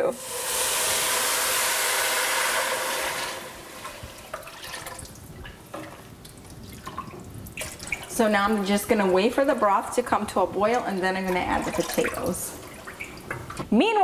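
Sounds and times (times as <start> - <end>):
liquid pouring into a pot: 0.1 - 13.5.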